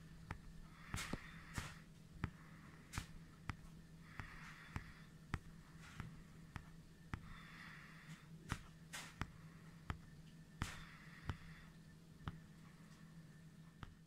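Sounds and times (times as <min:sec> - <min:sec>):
steady low hum: 0:00.0 - 0:14.0
soft breathy rustles: 0:00.3 - 0:11.7.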